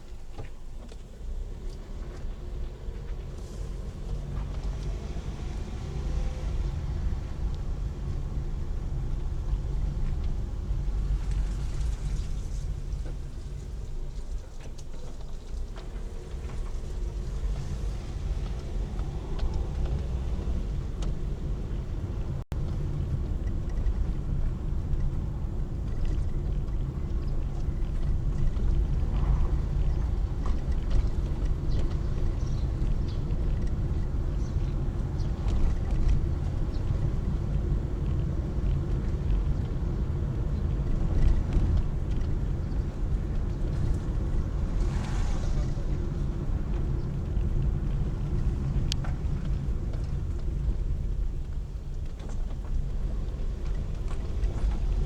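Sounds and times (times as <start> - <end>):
road and engine noise in car: 0.0 - 55.0.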